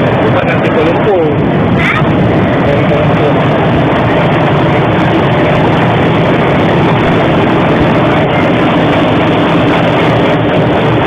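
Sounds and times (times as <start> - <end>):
running train rumble: 0.0 - 11.0.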